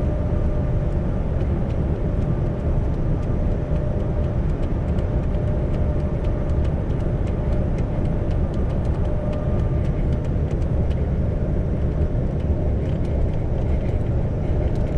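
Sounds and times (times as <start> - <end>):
faint steady whine: 0.0 - 14.9
road noise: 0.0 - 14.9.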